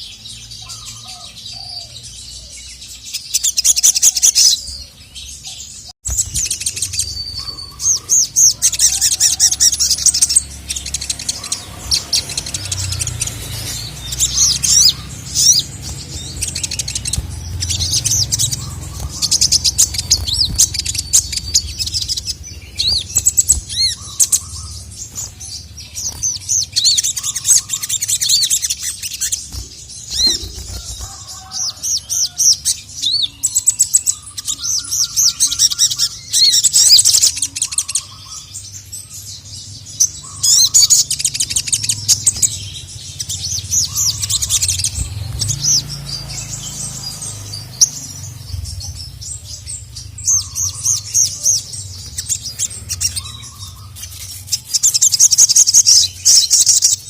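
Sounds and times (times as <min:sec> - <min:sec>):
songbird chattering song: 0:00.0 - 0:57.0.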